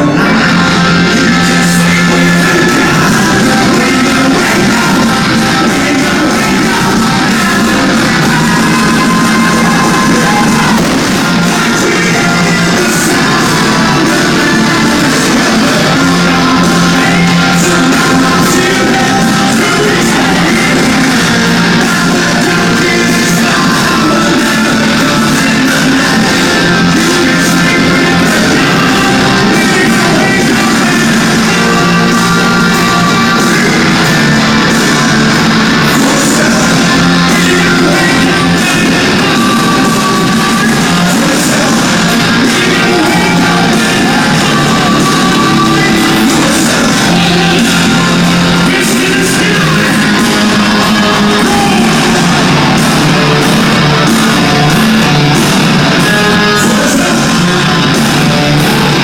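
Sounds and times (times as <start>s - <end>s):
hard rock band playing: 0.0s - 59.0s
person singing: 0.0s - 59.0s.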